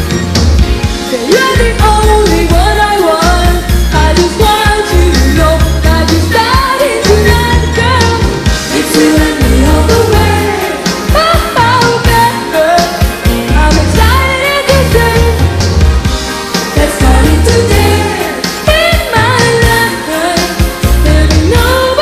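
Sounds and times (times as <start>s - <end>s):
bass line: 0.0s - 22.0s.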